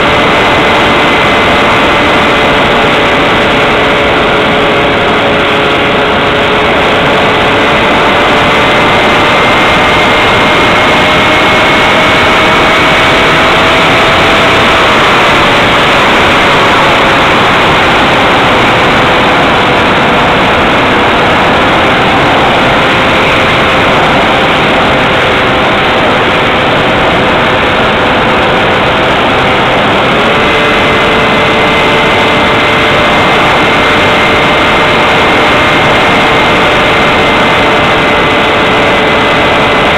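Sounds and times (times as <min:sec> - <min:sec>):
electric motor whine: 0:00.0 - 0:39.9
rushing wind noise: 0:00.0 - 0:39.9.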